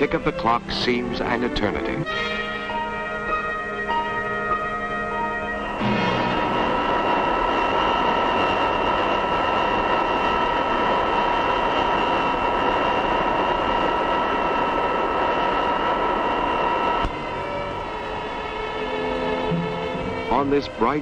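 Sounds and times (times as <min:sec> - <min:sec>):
jet engines whining and roaring: 0:00.0 - 0:21.0.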